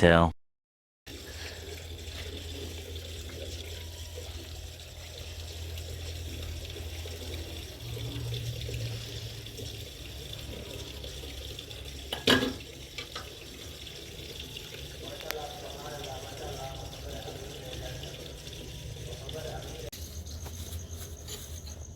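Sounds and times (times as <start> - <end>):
tap water running into sink: 1.1 - 19.9.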